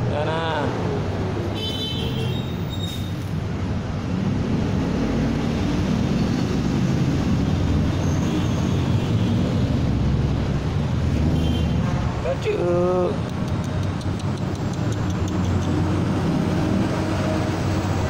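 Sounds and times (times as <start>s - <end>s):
vehicle engine rumbling: 2.3s - 18.0s.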